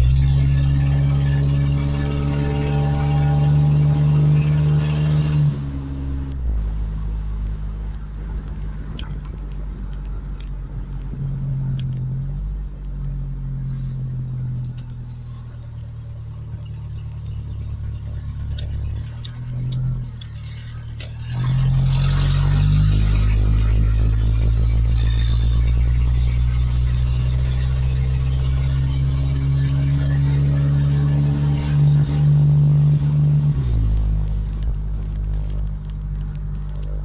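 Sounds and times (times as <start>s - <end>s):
truck engine revving: 0.0s - 7.5s, 8.2s - 37.0s.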